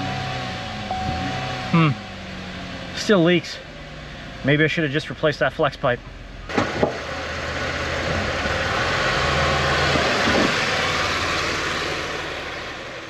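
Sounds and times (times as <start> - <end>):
rough car exhaust running: 0.0 - 13.0.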